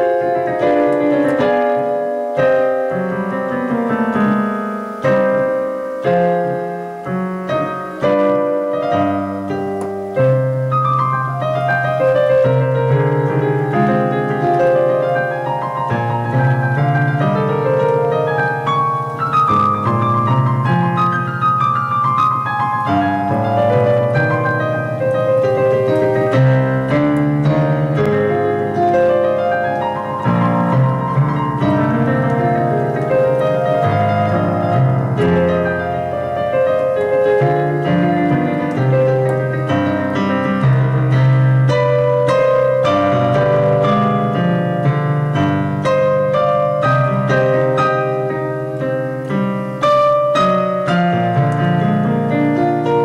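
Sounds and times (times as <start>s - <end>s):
piano music: 0.0s - 53.0s.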